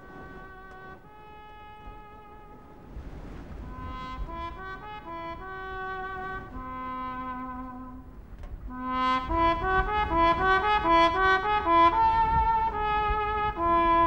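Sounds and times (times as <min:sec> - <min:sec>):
brass playing melody: 0:00.0 - 0:14.0.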